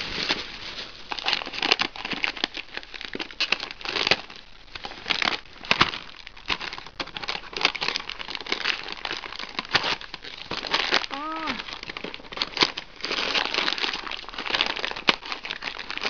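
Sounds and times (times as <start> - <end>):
wrapping crinkling and rustling: 0.0 - 16.0.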